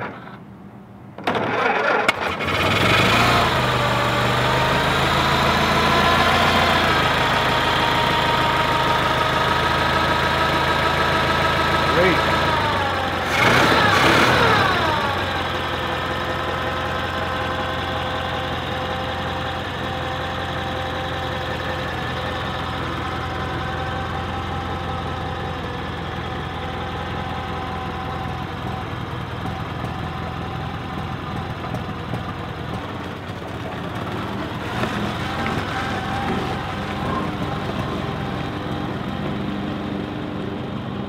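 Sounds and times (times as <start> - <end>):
car engine running: 2.2 - 41.0.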